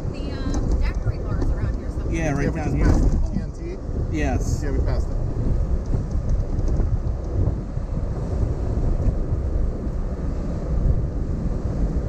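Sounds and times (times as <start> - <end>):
car road noise: 0.0 - 12.0
wind buffeting: 0.0 - 12.0.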